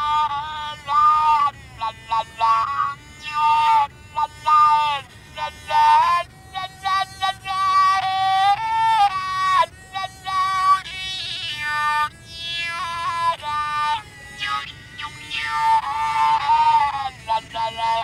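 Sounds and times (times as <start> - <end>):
single-string fiddle melody: 0.0 - 18.0.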